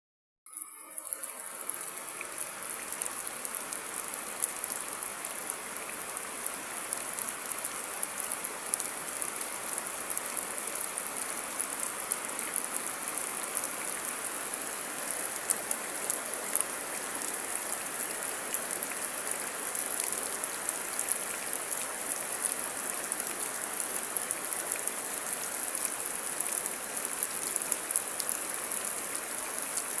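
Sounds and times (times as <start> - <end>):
steady rain falling: 1.0 - 30.0.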